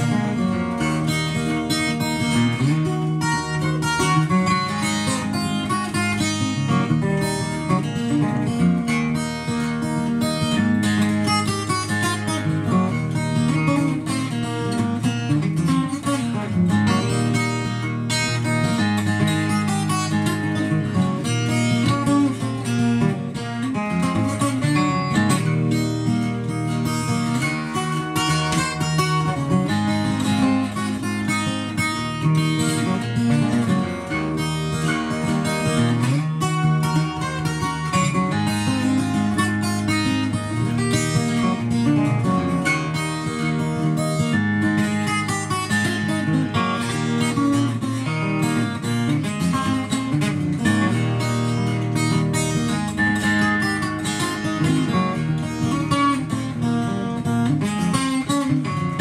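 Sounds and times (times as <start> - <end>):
twelve-string acoustic guitar fingerpicked: 0.0 - 59.0.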